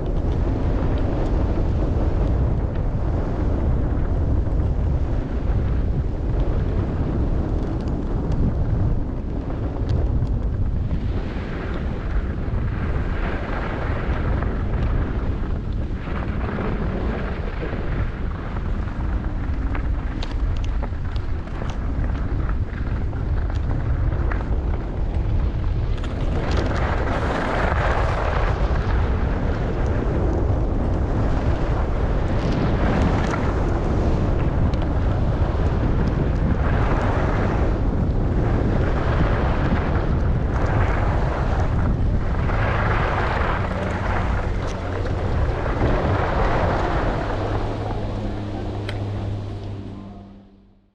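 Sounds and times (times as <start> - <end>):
skis scraping over snow: 0.0 - 49.9
wind buffeting microphone: 0.0 - 50.9.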